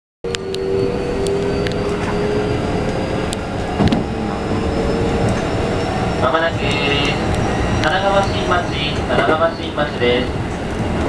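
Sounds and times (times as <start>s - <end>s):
train wheels rumbling on rails: 0.2s - 11.0s
train motor whine: 0.3s - 9.4s.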